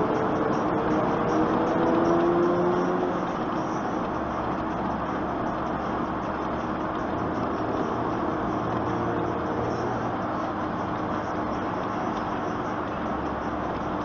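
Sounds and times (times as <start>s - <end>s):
road and engine noise in cabin: 0.0s - 14.0s.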